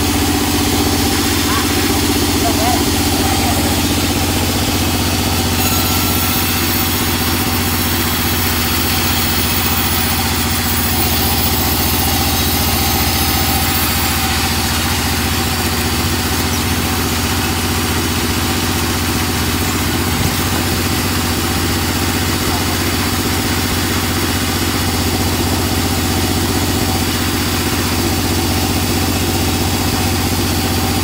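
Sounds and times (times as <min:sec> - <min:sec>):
band saw mechanical drone: 0:00.0 - 0:31.0.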